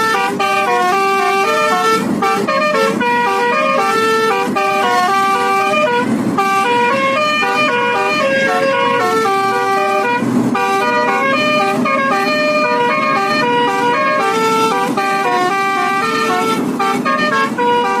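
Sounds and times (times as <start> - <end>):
multi-trumpet bus horn melody: 0.0 - 18.0.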